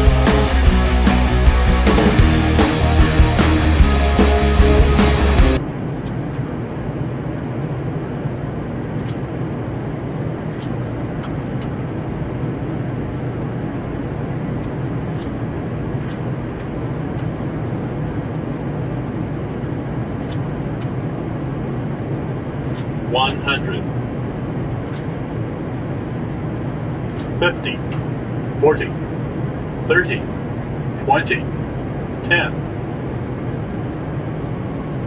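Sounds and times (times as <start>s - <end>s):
airflow and engine noise in cockpit: 0.0s - 35.0s.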